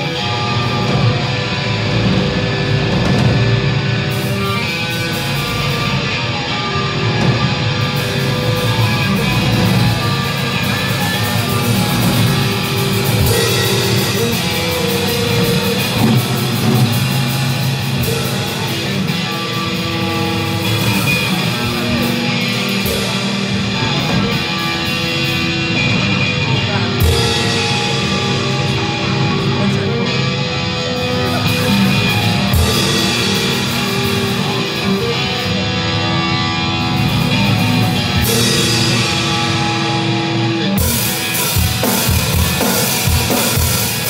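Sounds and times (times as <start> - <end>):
drum kit: 0.0 - 44.0
electric guitar: 0.0 - 44.0.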